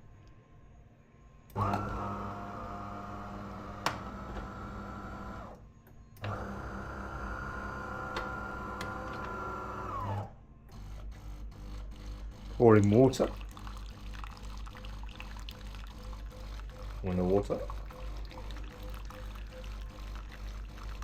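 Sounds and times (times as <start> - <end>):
coffee machine humming: 1.5 - 5.6, 6.2 - 21.0.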